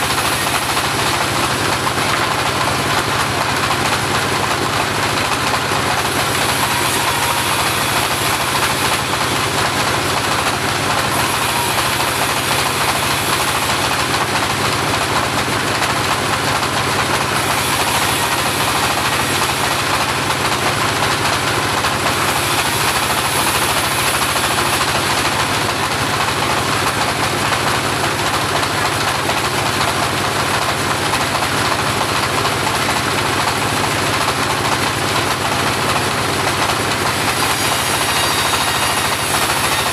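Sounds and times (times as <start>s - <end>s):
bandsaw running: 0.0s - 39.9s.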